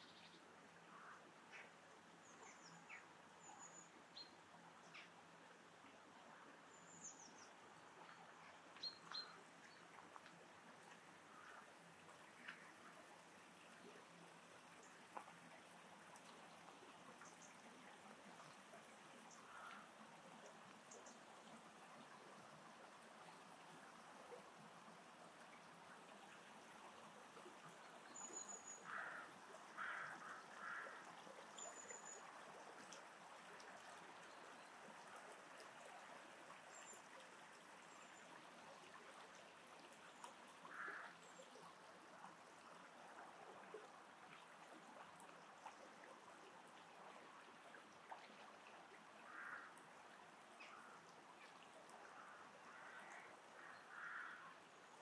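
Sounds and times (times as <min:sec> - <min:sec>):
trickle of running water: 0:00.1 - 0:55.0.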